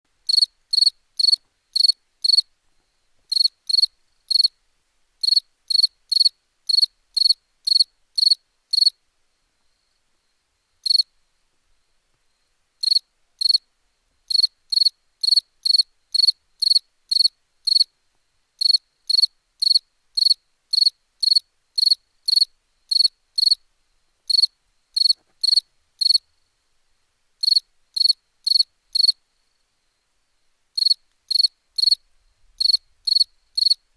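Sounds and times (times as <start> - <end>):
cricket chirping: 0.2 - 4.6, 5.2 - 26.8, 27.4 - 33.9.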